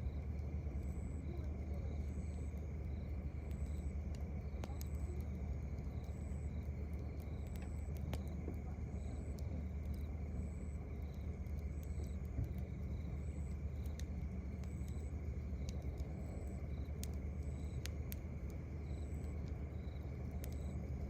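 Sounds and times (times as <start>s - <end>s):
campfire crackling: 0.0s - 21.0s
crickets chirping: 0.0s - 21.0s.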